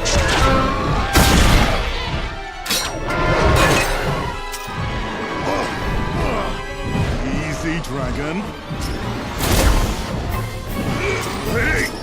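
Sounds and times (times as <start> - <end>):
cartoon action music: 0.0 - 12.0.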